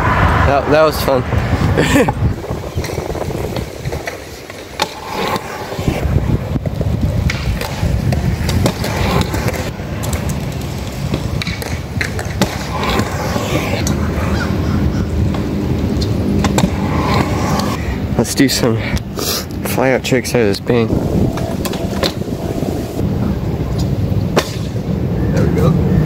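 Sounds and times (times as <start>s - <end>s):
scooter wheels rolling on concrete: 1.3s - 18.4s, 19.0s - 25.1s.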